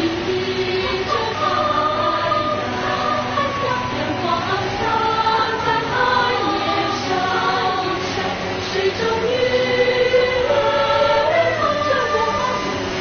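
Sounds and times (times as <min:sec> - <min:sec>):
choir singing held notes: 0:00.0 - 0:13.0.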